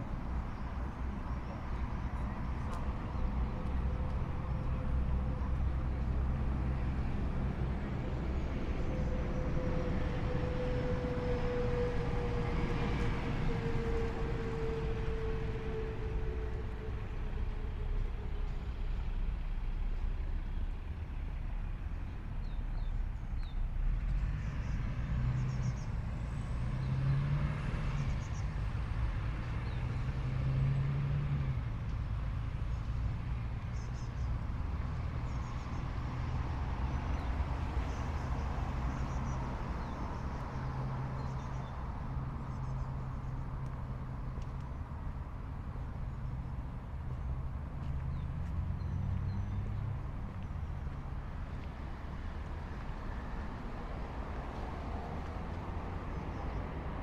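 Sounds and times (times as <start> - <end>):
cars driving past: 0.0 - 57.0
low engine hum: 0.0 - 57.0.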